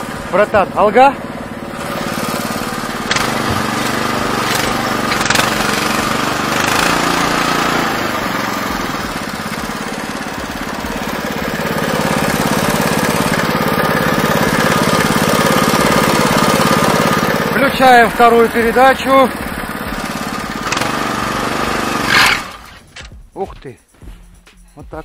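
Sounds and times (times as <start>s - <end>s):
single-cylinder engine running: 0.0s - 23.1s
engine knocks: 0.0s - 23.4s.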